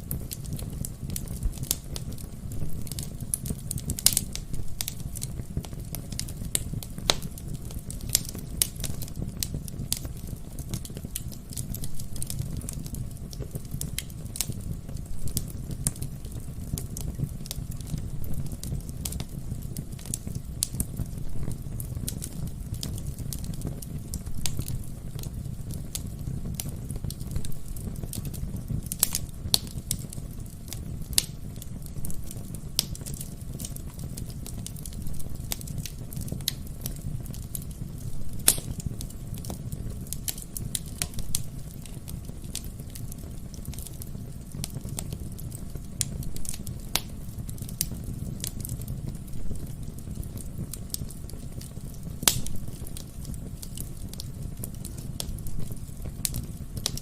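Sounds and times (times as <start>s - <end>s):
low fire rumble: 0.0s - 57.0s
wood fire crackling and popping: 0.0s - 57.0s.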